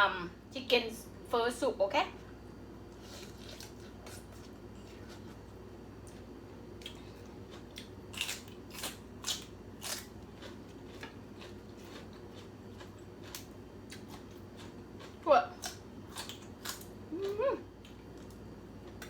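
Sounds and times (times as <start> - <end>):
low room hum: 0.0 - 19.0
crunching raw vegetables: 2.9 - 19.0.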